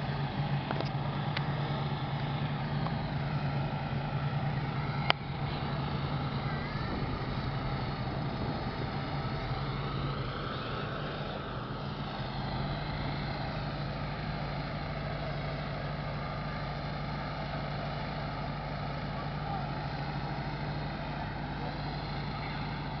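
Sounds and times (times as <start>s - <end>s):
car engines idling: 0.0s - 23.0s.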